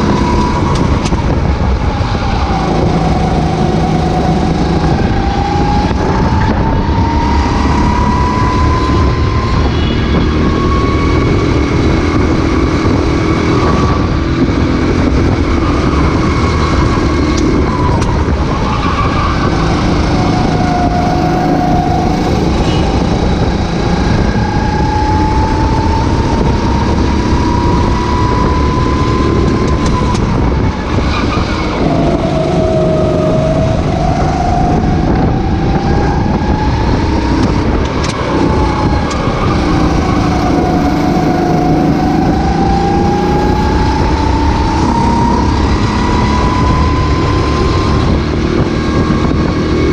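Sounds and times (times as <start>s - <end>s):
kart engine accelerating: 0.0s - 49.9s.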